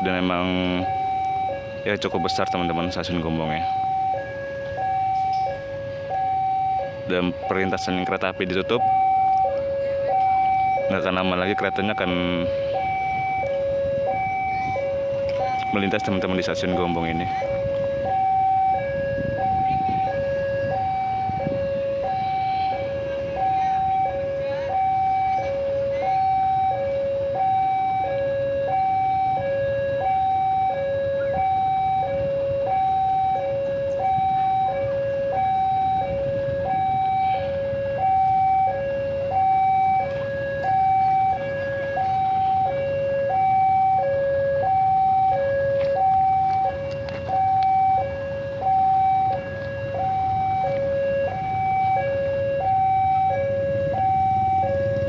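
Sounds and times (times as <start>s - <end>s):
level crossing alarm two tones: 0.0s - 55.0s
low rumble of traffic: 0.0s - 55.0s.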